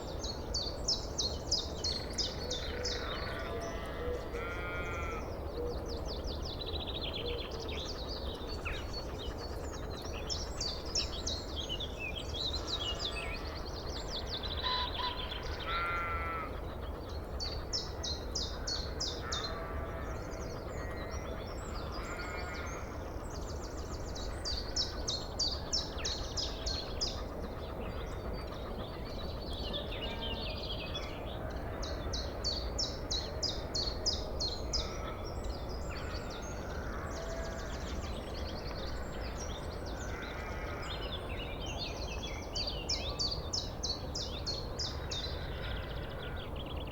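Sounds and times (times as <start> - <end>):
songbirds trilling: 0.0 - 46.9.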